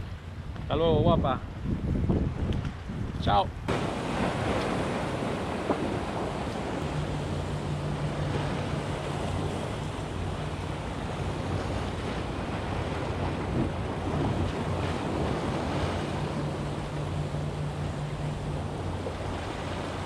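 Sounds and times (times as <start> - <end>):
wind buffeting microphone: 0.0 - 20.0
steady low hum: 3.5 - 20.0
sea waves washing against rocks: 3.6 - 20.0.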